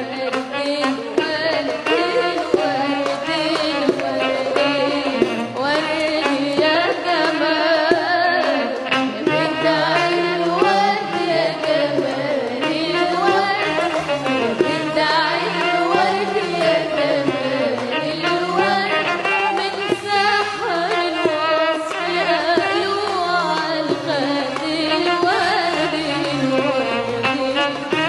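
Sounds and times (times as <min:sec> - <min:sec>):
girl singing into a microphone: 0:00.0 - 0:13.8, 0:14.7 - 0:27.8
hand-drum strokes: 0:00.0 - 0:28.0
instrumental backing: 0:00.0 - 0:28.0.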